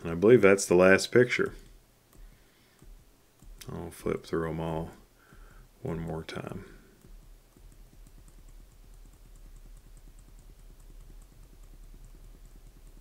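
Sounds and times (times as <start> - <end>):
low steady hum: 0.0 - 13.0
computer keys clicking: 1.4 - 13.0.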